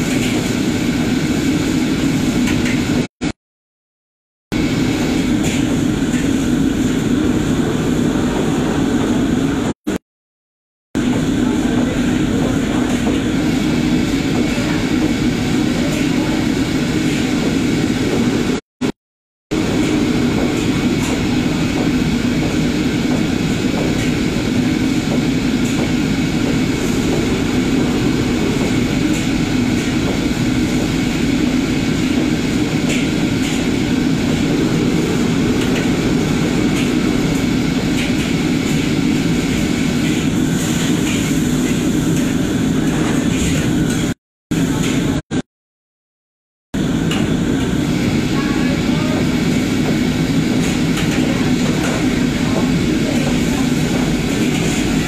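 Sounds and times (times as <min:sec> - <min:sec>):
burners and extraction hood rushing: 0:04.6 - 0:09.8, 0:11.0 - 0:18.6, 0:19.5 - 0:45.2, 0:46.8 - 0:55.0.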